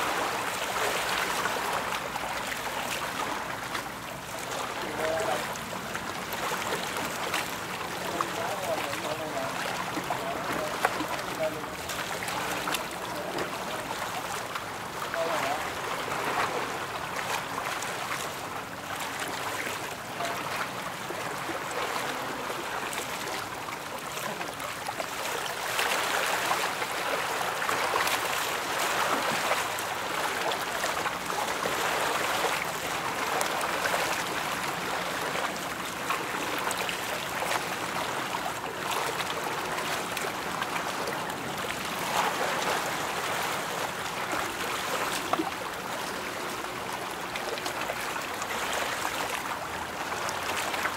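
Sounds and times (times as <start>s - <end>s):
choppy water splashing: 0.0s - 50.9s.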